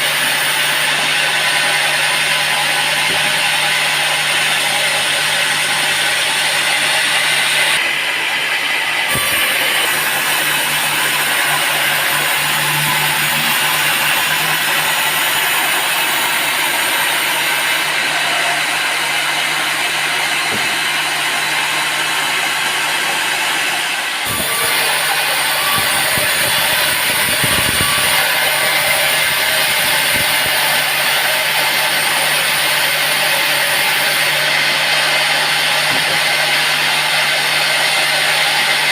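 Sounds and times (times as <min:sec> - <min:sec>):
saw cutting wood: 0:00.0 - 0:38.9.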